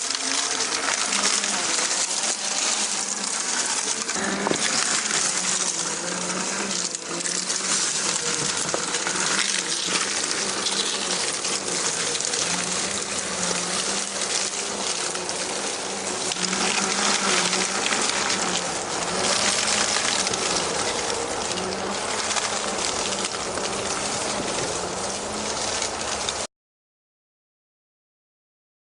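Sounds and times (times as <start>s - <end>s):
electric motor and gears whining: 0.0s - 26.5s.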